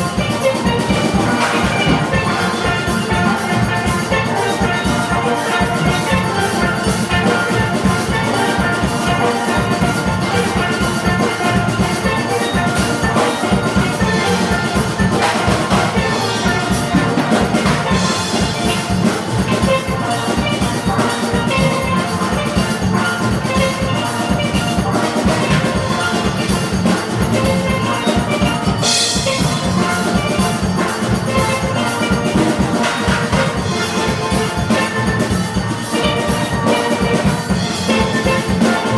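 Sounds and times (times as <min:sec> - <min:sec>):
drums keeping a beat: 0:00.0 - 0:38.9
steel pans playing melody: 0:00.0 - 0:38.9.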